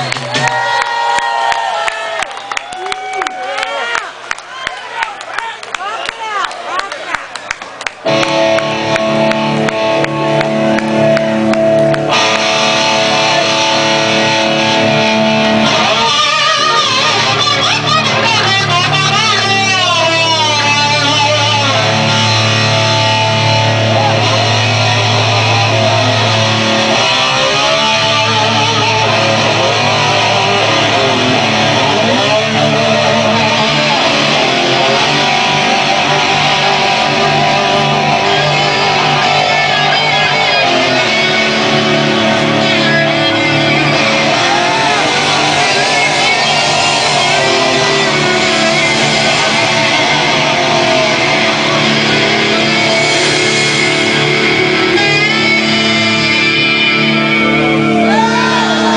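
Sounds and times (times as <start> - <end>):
electric guitar with vibrato: 8.0 - 58.9
sustained bass notes: 8.0 - 58.9.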